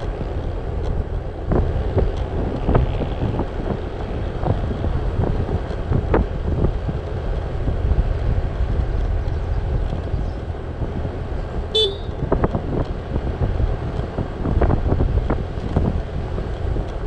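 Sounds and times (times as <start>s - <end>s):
engine and tyres rumble: 0.0s - 17.0s
wind buffeting thumps: 0.0s - 17.0s
wind rushing over microphone: 0.0s - 17.0s.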